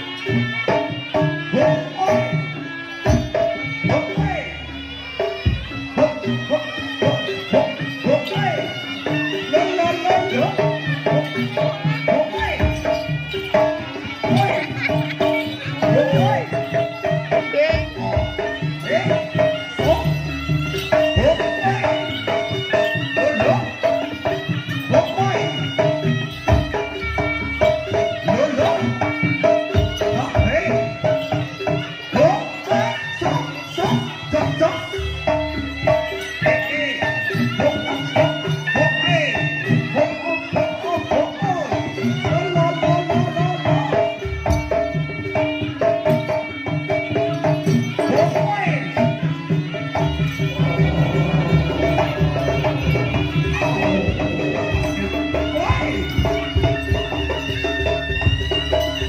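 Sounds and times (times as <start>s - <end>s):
gamelan ensemble music: 0.0s - 59.0s
hand drums: 0.0s - 59.0s
pitched gongs or metallophones: 0.0s - 59.0s
tuned metal percussion ringing: 5.2s - 59.0s.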